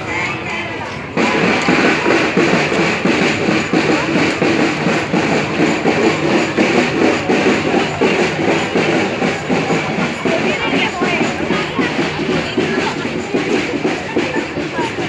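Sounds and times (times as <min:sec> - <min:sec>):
drums playing fast rhythm: 0:01.0 - 0:15.0.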